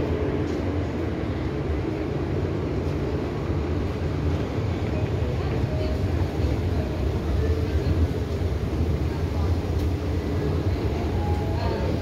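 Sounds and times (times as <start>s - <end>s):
train station rumble and hum: 0.0s - 12.0s.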